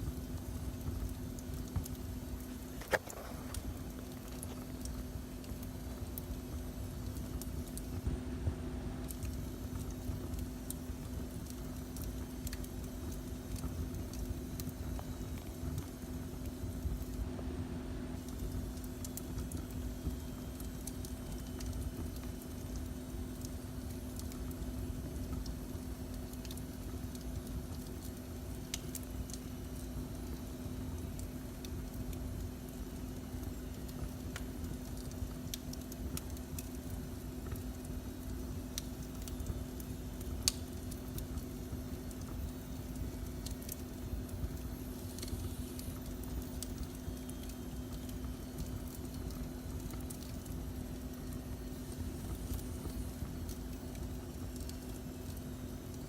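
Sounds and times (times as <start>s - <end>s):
fireplace fire crackling: 0.0s - 56.0s
low hum and rumble: 0.0s - 56.0s.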